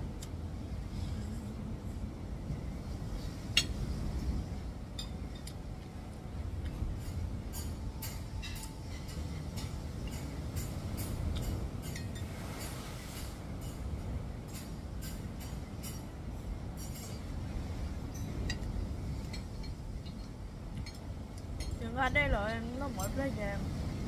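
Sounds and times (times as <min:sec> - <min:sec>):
low background rumble: 0:00.0 - 0:24.0.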